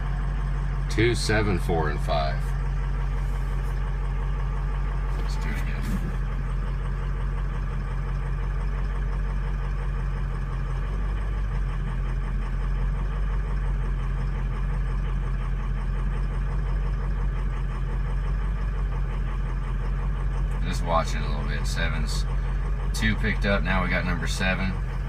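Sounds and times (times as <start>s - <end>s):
truck diesel engine idling: 0.0s - 25.0s.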